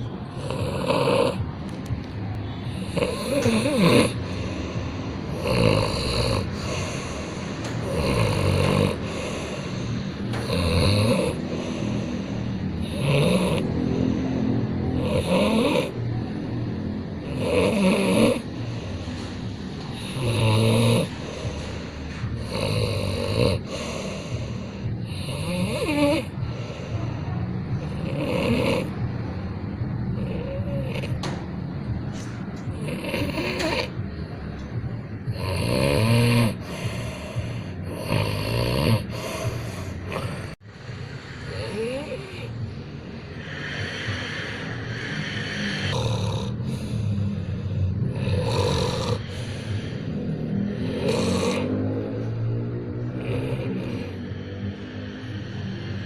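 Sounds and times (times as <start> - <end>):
water buffalo snoring: 0.4 - 1.5, 2.7 - 14.2, 15.0 - 16.0, 17.2 - 19.1, 19.9 - 26.7, 27.8 - 28.9, 30.2 - 31.2, 32.7 - 34.0, 35.3 - 40.6, 41.4 - 42.6, 43.4 - 56.0.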